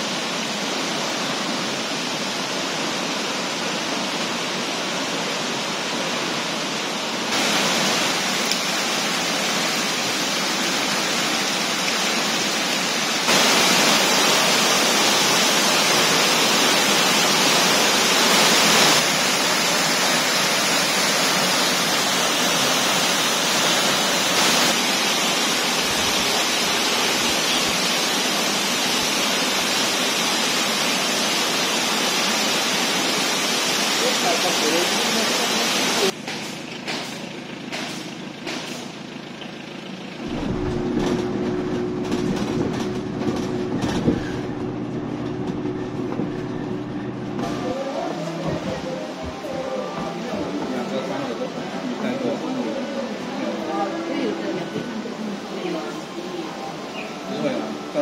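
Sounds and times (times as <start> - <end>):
waterfall roaring: 0.0 - 37.1, 40.2 - 58.0.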